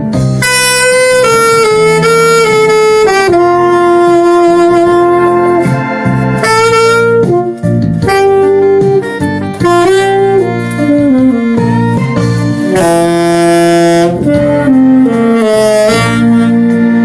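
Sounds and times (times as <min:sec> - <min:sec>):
alto saxophone melody: 0:00.0 - 0:17.0
soft musical accompaniment: 0:00.0 - 0:17.0.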